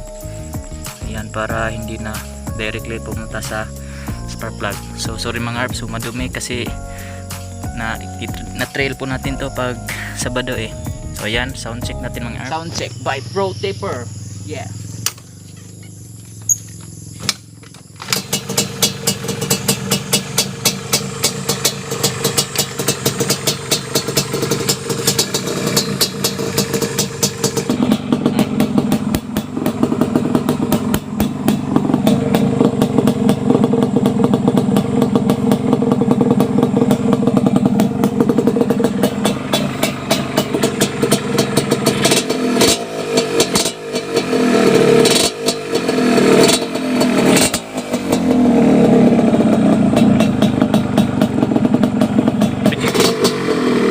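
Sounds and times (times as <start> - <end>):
two-stroke motorcycle engine: 0.0 - 53.9.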